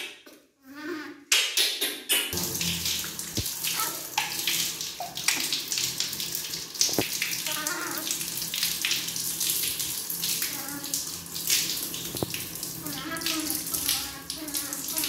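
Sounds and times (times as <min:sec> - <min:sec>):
tap water running and splashing: 0:02.4 - 0:15.0.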